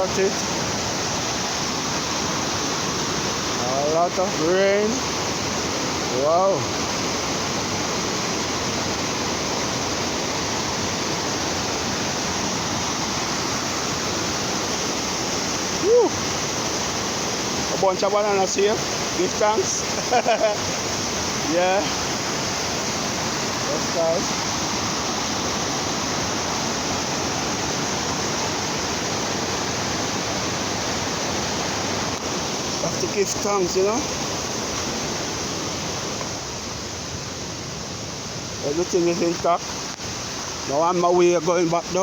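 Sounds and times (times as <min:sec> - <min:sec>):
fast-flowing water rushing: 0:00.0 - 0:42.0.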